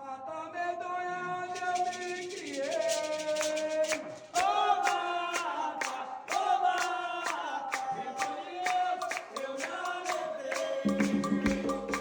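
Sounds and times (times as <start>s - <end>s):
group of voices singing: 0.0s - 12.0s
hand percussion beat: 1.5s - 12.0s.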